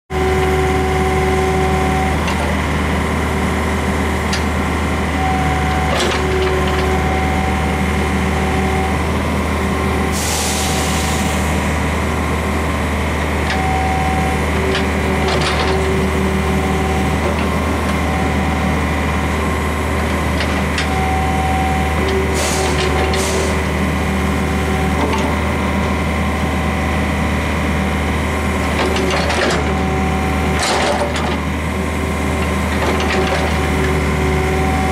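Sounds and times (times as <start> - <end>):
excavator diesel engine running: 0.1 - 34.9
hydraulic whine: 0.1 - 34.9.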